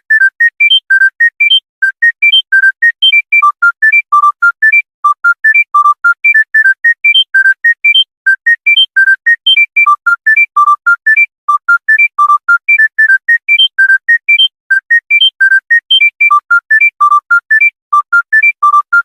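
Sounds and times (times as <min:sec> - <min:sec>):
phone ringtone beeping melody: 0:00.0 - 0:19.0.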